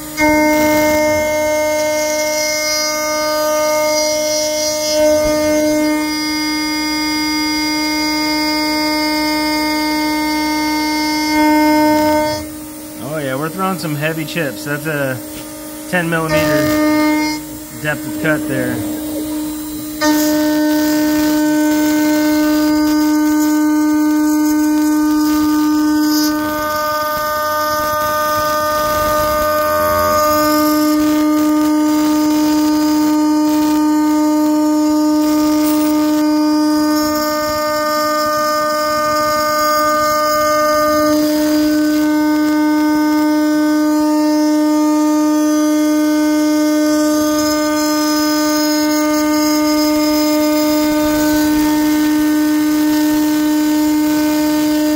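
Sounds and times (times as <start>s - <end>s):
router spindle whine cutting metal: 0.0s - 54.9s.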